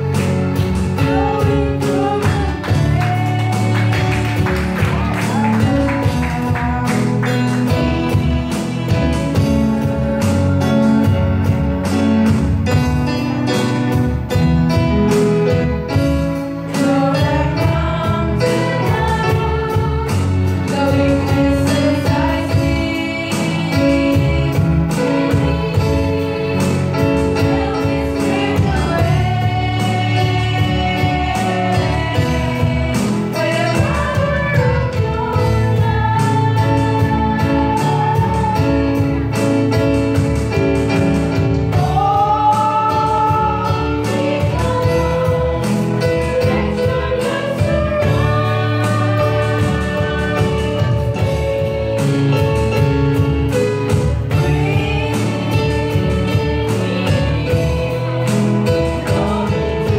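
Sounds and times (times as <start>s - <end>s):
women singing: 0.0s - 11.2s, 15.4s - 39.9s, 41.7s - 59.9s
keyboard accompaniment: 0.0s - 59.9s.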